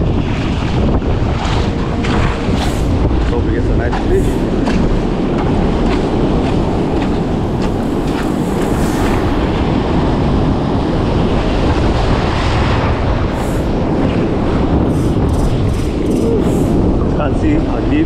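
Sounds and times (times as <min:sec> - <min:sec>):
surf washing over rocks: 0:00.0 - 0:18.0
wind buffeting microphone: 0:00.0 - 0:18.0.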